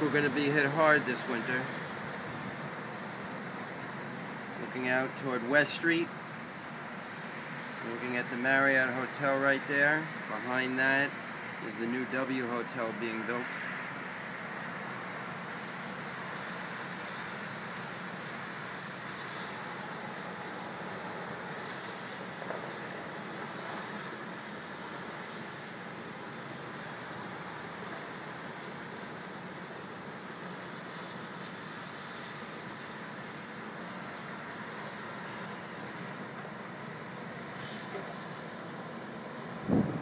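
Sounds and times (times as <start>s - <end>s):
distant street traffic: 0.0s - 40.0s
wind: 0.0s - 40.0s.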